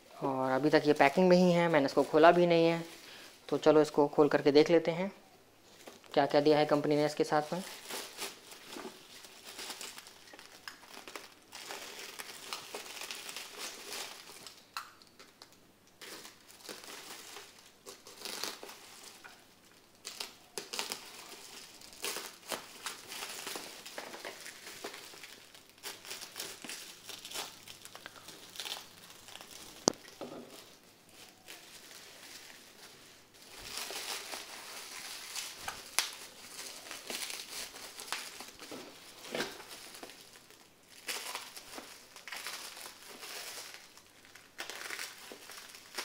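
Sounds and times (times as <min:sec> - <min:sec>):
plastic wrapping crinkling: 0:00.1 - 0:04.8, 0:05.7 - 0:46.0.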